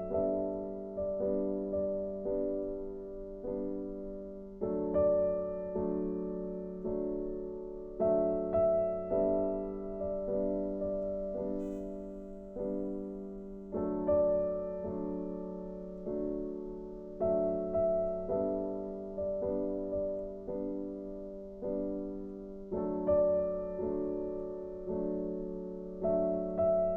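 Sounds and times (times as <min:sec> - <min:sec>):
soft piano chords: 0:00.0 - 0:26.9.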